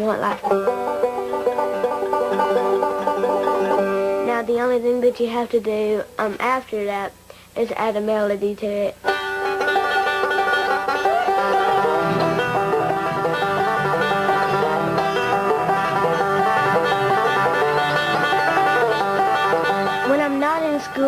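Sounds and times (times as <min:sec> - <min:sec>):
banjo fingerpicked rolls: 0:00.0 - 0:06.5, 0:09.0 - 0:21.0.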